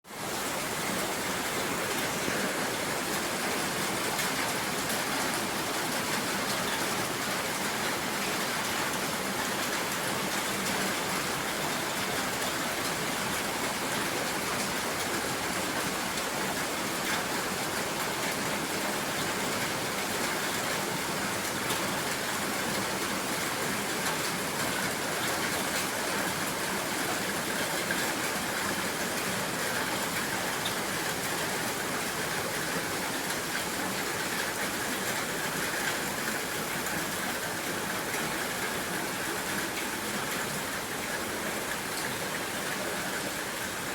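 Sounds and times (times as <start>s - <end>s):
heavy rain on a shed: 0.0s - 43.9s.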